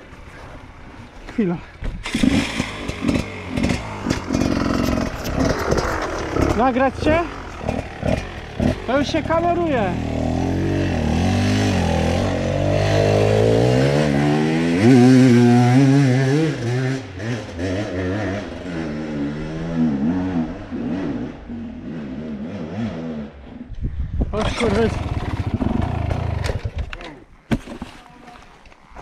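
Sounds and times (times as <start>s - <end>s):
dirt bike engine revving: 2.0s - 23.6s, 24.4s - 26.9s.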